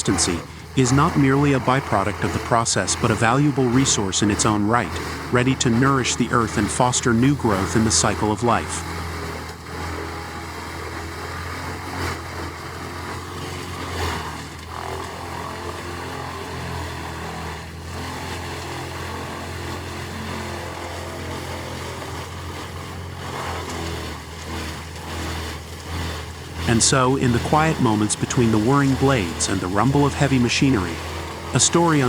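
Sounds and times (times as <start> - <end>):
wood chipper engine drone: 0.0 - 32.0
wood knocking through chipper: 0.0 - 32.0.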